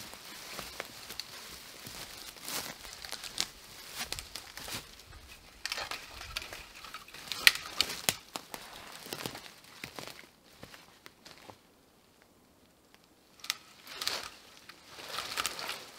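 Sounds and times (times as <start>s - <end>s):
brush dragged over ground: 0.0s - 10.8s, 13.4s - 15.9s
dry branches crackling and snapping: 0.0s - 11.6s, 12.9s - 15.9s.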